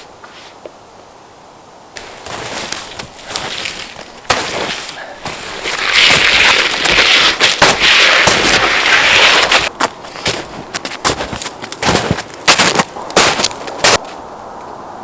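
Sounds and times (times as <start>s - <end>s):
campfire crackling and popping: 2.0s - 14.0s.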